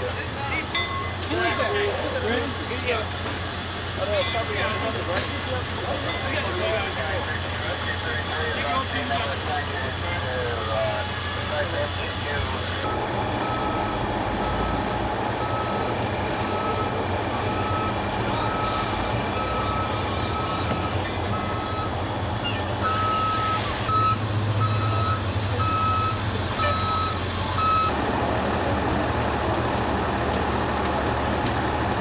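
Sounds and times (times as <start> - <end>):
vehicle reversing alarm beeping: 0.4 - 2.6, 4.0 - 28.0.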